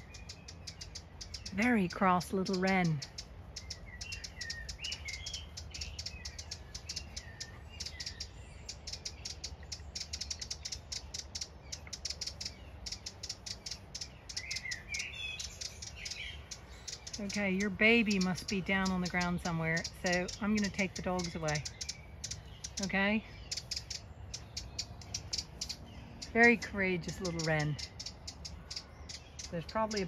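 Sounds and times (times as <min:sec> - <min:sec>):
bird chirps: 0:00.0 - 0:30.0
wren alarm ticking: 0:00.0 - 0:30.0.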